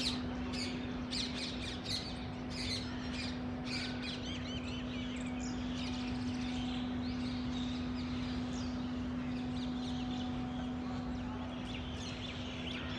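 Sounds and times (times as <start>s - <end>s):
birds chirping: 0.0s - 12.9s
steady low hum: 0.0s - 12.9s.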